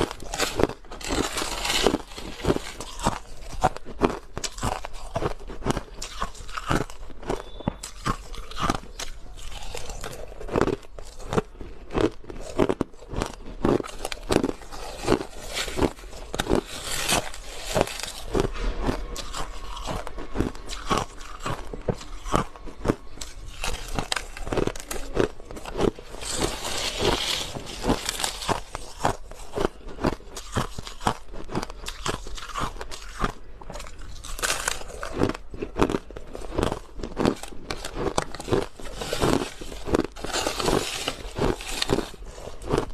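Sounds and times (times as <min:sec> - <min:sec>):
ice crunching while chewed: 0:00.0 - 0:42.9.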